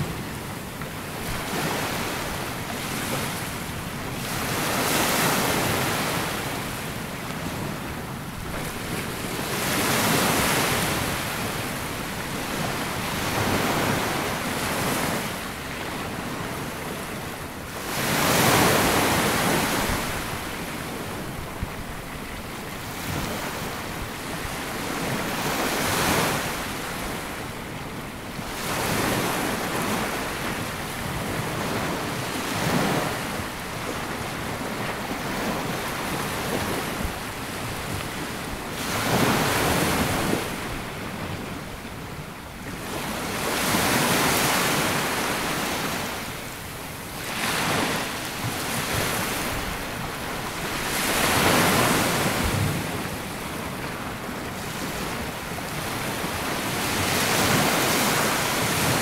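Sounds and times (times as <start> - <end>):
waves washing up a beach: 0.0 - 59.0
wind on microphone: 0.0 - 59.0.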